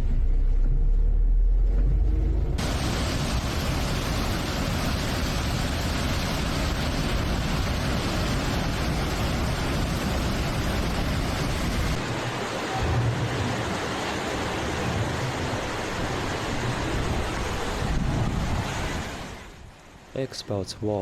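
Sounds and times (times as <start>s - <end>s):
floodwater rushing: 2.6s - 20.6s.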